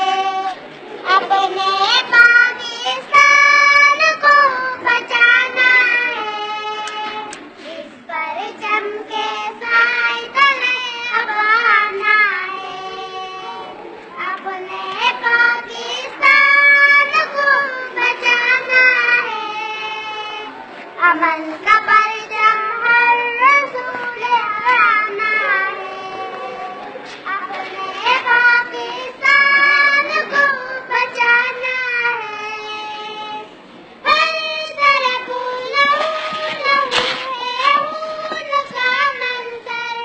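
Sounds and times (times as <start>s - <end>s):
child singing: 0.0s - 40.0s.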